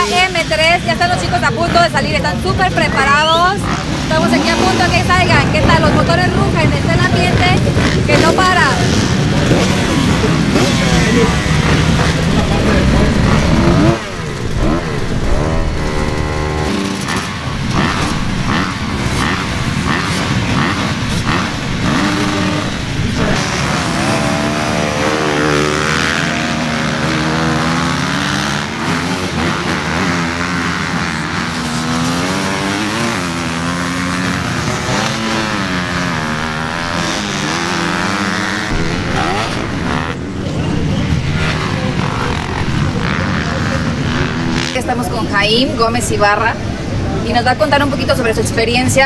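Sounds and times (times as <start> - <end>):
motocross bike engines revving: 0.0 - 49.0.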